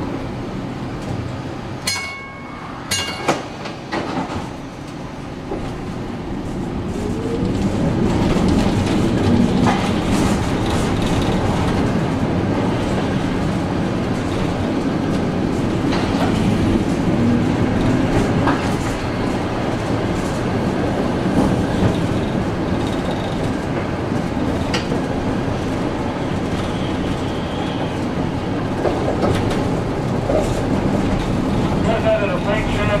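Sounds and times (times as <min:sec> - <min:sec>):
streetcar rumbling on rails: 0:00.0 - 0:33.0.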